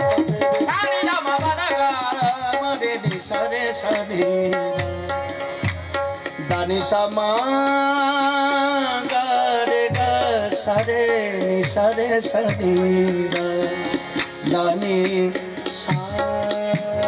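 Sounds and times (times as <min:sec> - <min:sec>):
harmonium: 0:00.0 - 0:17.0
men singing: 0:00.0 - 0:17.0.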